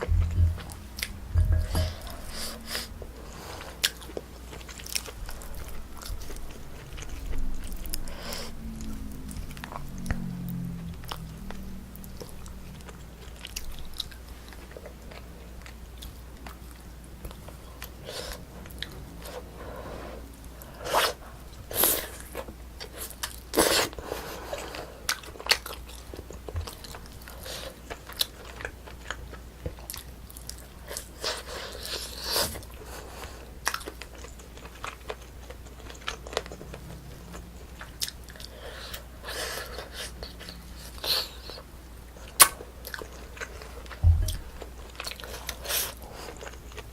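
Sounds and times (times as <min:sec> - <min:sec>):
person chewing and smacking: 0:00.0 - 0:19.0, 0:24.6 - 0:46.9
low electrical hum: 0:00.0 - 0:46.9.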